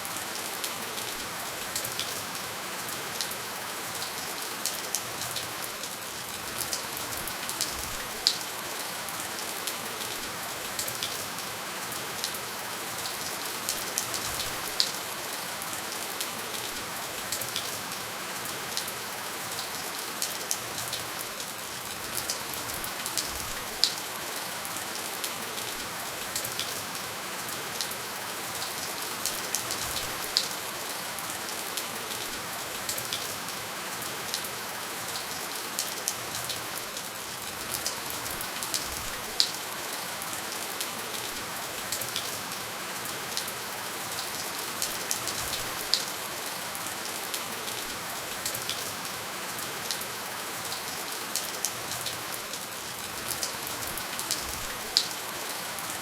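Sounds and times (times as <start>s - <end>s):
gentle rainfall: 0.0s - 56.0s.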